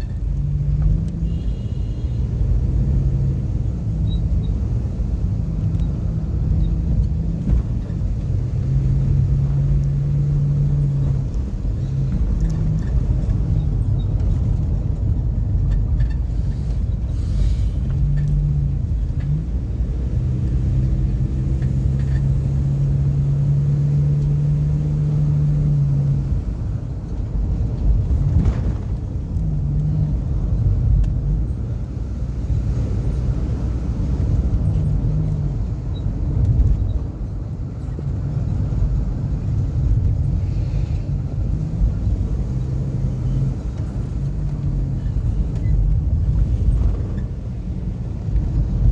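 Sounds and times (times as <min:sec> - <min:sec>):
car engine hum: 0:00.0 - 0:48.9
road rumble: 0:00.0 - 0:48.9.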